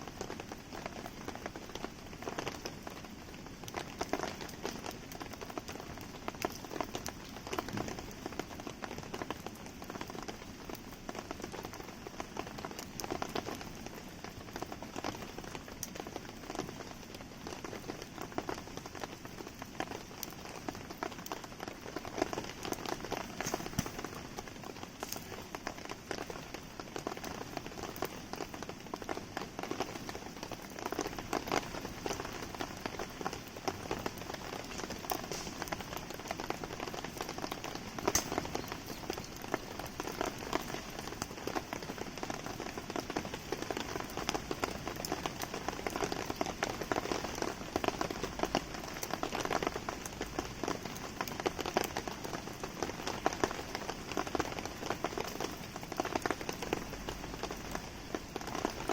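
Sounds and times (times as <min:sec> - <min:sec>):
campfire crackling: 0:00.0 - 0:58.9
rain pattering: 0:00.0 - 0:58.9.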